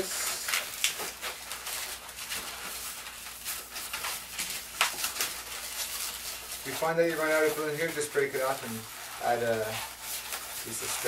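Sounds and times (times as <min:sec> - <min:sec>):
balloon squeaking and rubbing: 0:00.0 - 0:11.0.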